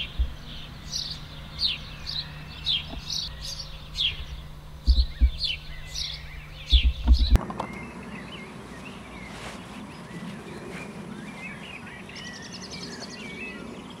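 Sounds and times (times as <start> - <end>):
steady low rumble: 0.0 - 12.2
small birds chirping: 0.0 - 14.0.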